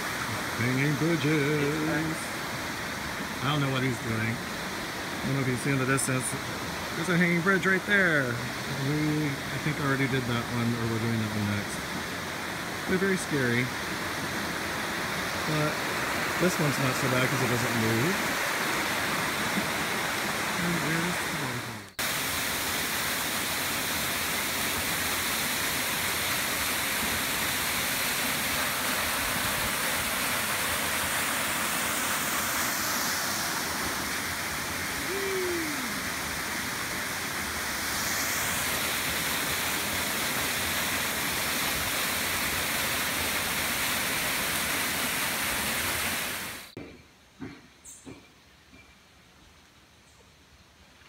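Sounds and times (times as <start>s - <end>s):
waterfall splashing onto rocks: 0.0s - 46.8s.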